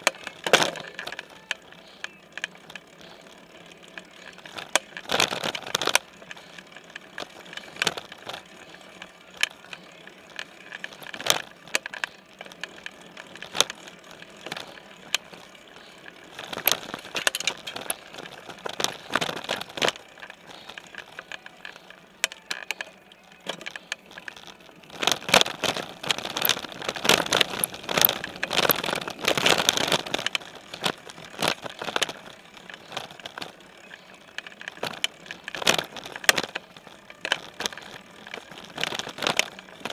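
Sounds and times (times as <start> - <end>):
bike rattles and knocks: 0.0 - 39.9
bike tyres rolling on dirt: 0.0 - 39.9.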